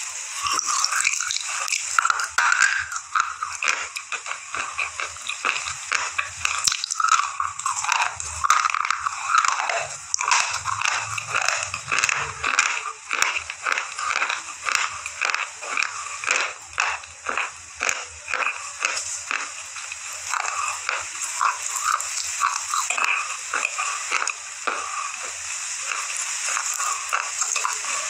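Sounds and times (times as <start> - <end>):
chalky stick crunching in teeth: 0.0 - 28.0.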